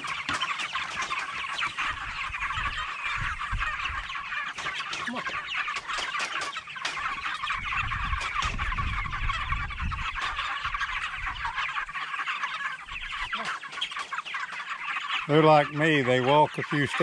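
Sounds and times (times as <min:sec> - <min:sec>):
chickens peeping and chirping: 0:00.0 - 0:17.0.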